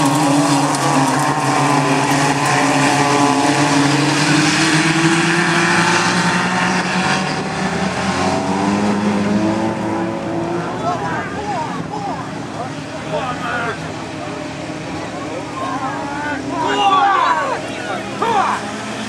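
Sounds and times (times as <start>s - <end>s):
race car engines running hard: 0.0s - 19.0s.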